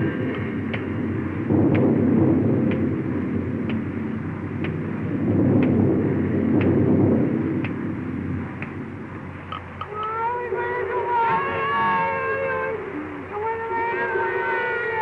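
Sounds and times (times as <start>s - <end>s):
cartoon rainstorm rushing noise: 0.0s - 15.0s.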